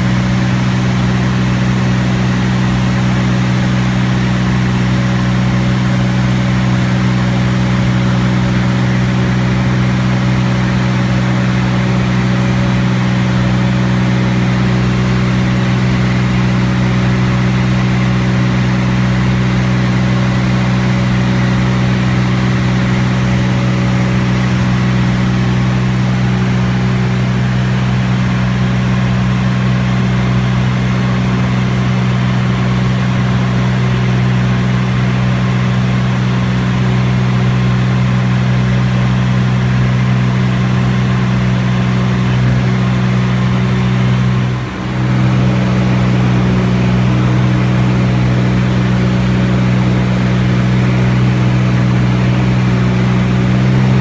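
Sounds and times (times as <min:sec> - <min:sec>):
propeller aircraft engine droning: 0:00.0 - 0:54.0.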